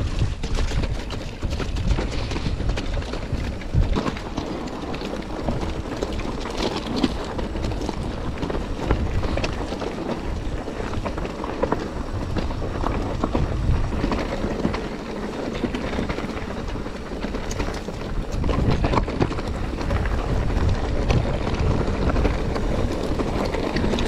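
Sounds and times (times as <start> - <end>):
bike rattling and knocking: 0.0 - 24.0
tyres crunching over stones: 0.0 - 24.0
wind buffeting microphone: 0.0 - 24.0.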